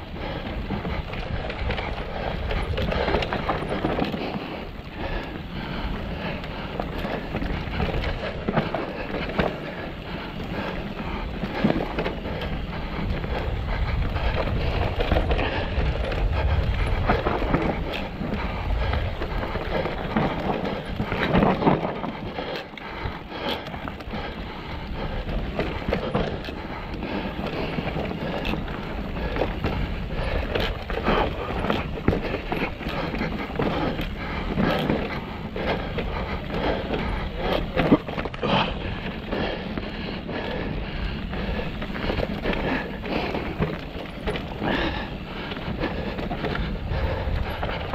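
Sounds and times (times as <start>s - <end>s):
bike rattling over rocks: 0.0s - 47.9s
wind buffeting microphone: 0.0s - 47.9s.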